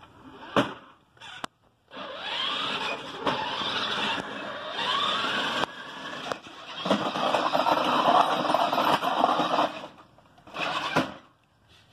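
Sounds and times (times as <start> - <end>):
toy truck electric motor whirring: 1.2 - 11.3.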